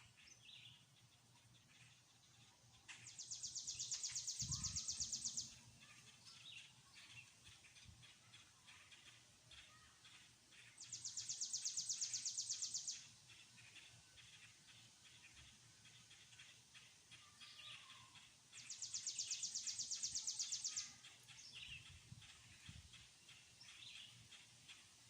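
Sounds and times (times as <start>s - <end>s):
soft bird chirps: 0.0s - 25.0s
songbird trilling: 1.9s - 24.5s.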